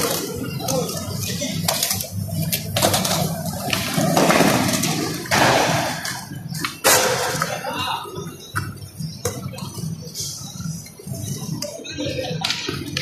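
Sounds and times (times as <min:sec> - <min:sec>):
skateboards clacking on ground: 0:00.0 - 0:09.9, 0:10.8 - 0:13.0
skateboard wheels rolling on tiles: 0:00.0 - 0:13.0.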